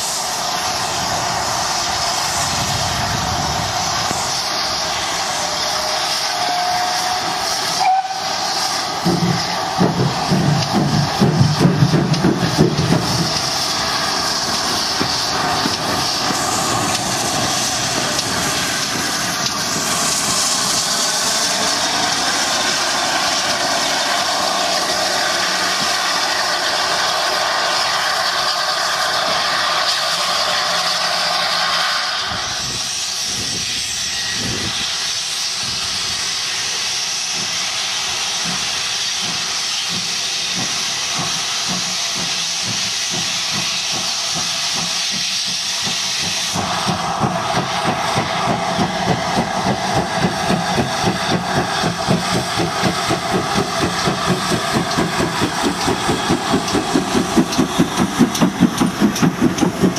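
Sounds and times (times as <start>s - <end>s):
steam hissing from locomotive: 0.0s - 59.9s.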